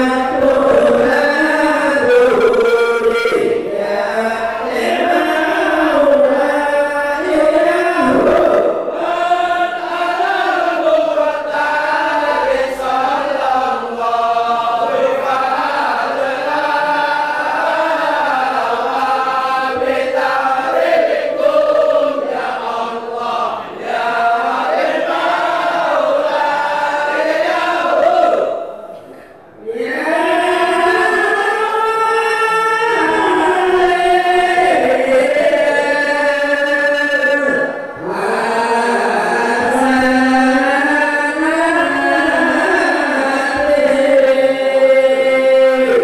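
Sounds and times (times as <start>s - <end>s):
men chanting in unison: 0.0s - 46.0s.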